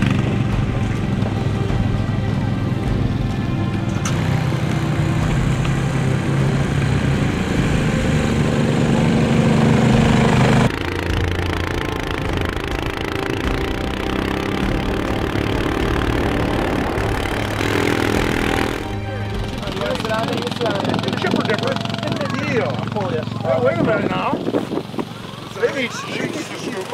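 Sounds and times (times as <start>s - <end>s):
vehicle engine running: 0.0s - 26.9s.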